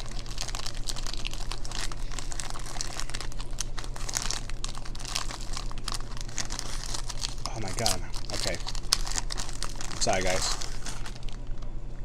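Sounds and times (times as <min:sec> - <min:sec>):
plastic wrapper crinkling: 0:00.0 - 0:11.7.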